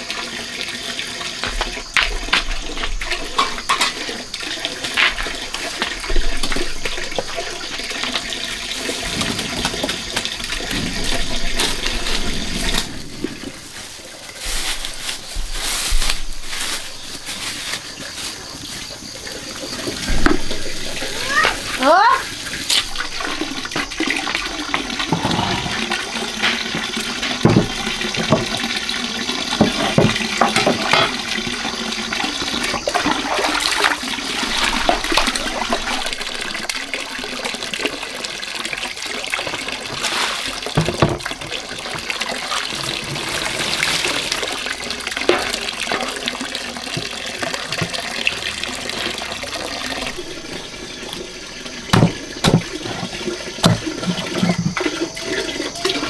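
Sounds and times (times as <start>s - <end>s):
water splashing in plastic basin: 0.0s - 56.0s.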